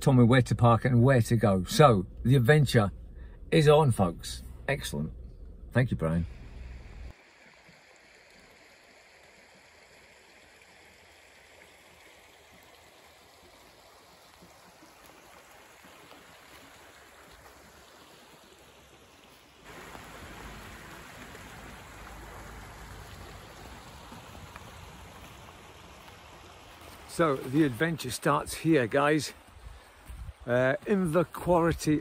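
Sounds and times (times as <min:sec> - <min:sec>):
shallow river flowing: 0:06.3 - 0:32.0.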